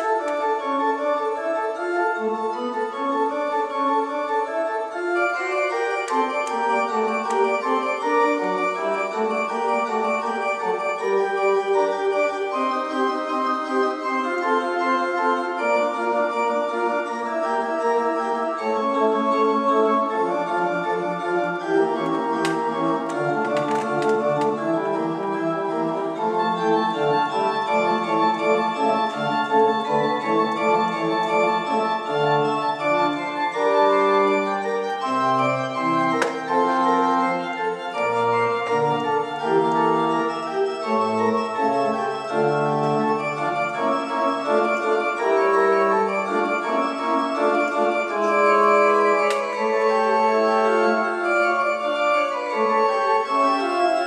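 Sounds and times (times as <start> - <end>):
organ playing slow piece: 0.0 - 54.0.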